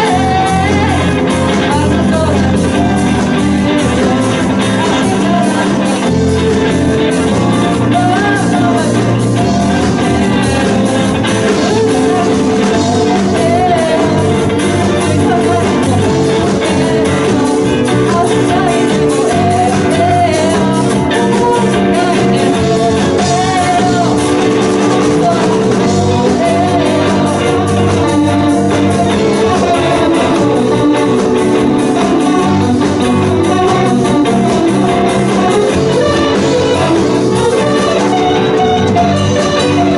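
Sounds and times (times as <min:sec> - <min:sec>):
live band music with keyboard: 0:00.0 - 0:39.9.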